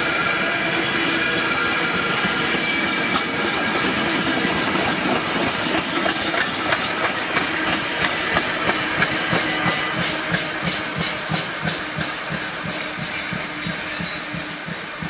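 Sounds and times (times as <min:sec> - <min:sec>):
freight train rolling past: 0:00.0 - 0:15.0
wheels clicking over rail joints: 0:01.5 - 0:15.0.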